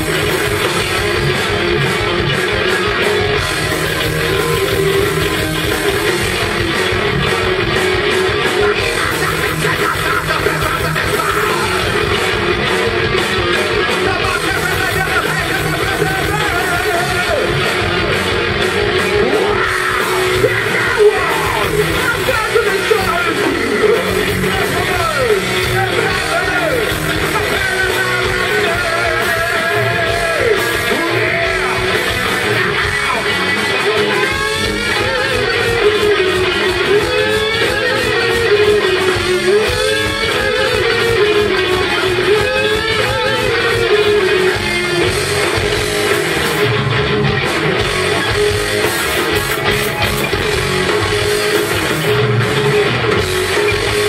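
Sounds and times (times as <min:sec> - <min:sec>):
bending lead guitar line: 0:00.0 - 0:54.0
heavy metal band playing live: 0:00.0 - 0:54.0.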